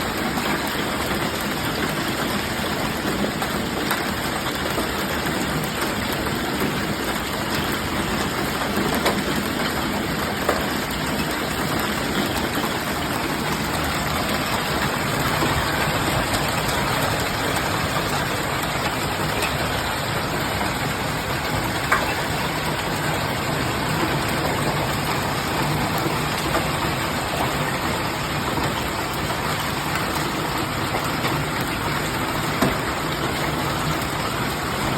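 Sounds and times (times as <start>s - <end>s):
hail and rain pelting down: 0.0s - 34.9s.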